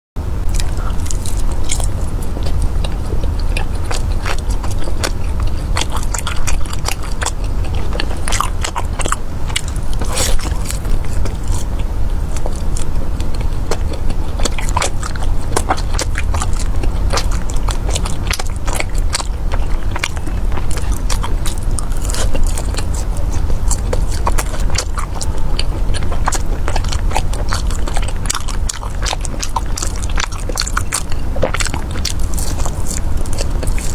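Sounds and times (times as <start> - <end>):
crunchy pastry chewing: 0.2 - 33.9
low hum: 0.2 - 33.9.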